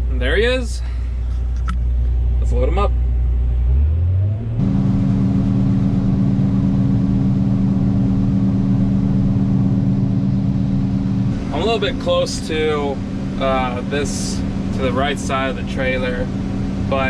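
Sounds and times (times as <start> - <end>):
combine harvester engine droning: 0.0 - 17.0.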